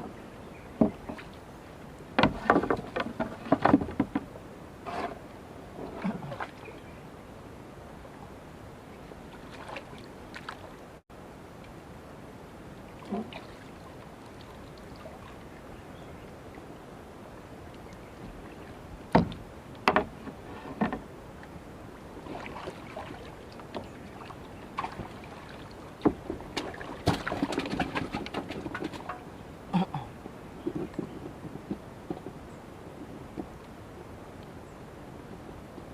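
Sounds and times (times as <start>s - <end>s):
faint background noise: 0.0s - 35.9s.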